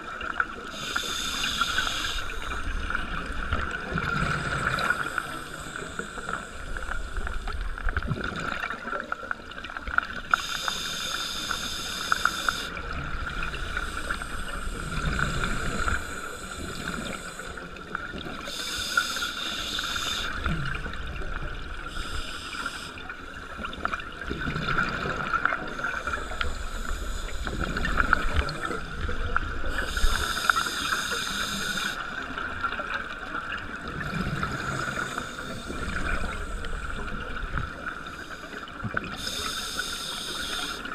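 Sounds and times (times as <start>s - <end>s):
underwater hum and low rumble: 0.0s - 40.9s
bubbling hiss: 0.6s - 8.7s, 10.2s - 23.7s, 24.5s - 32.7s, 33.8s - 40.9s.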